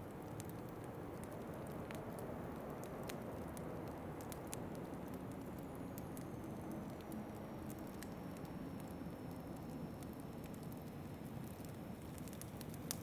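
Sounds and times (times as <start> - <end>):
low rush of wind: 0.0 - 13.0
wood fire crackling: 0.0 - 13.0.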